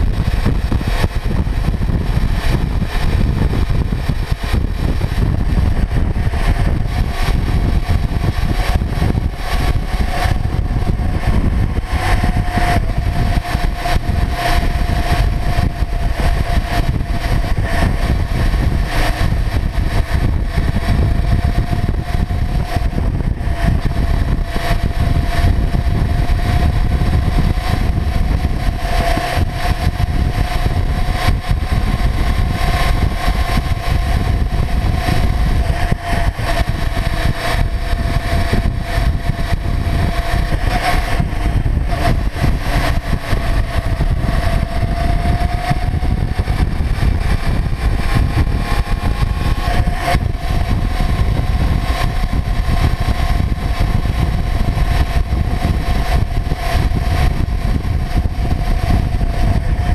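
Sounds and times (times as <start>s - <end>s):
motorcycle engine cruising: 0.0s - 59.9s
wind and road noise rumble: 0.0s - 59.9s.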